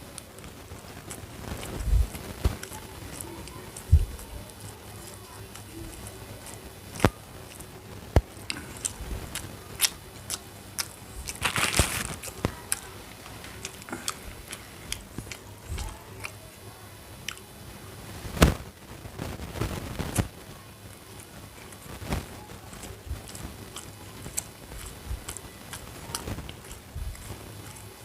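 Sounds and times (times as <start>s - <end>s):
sharp clicks and crackles: 0.0s - 16.4s, 18.3s - 28.0s
chewing and biting: 0.0s - 16.5s, 17.2s - 17.5s, 20.9s - 28.0s.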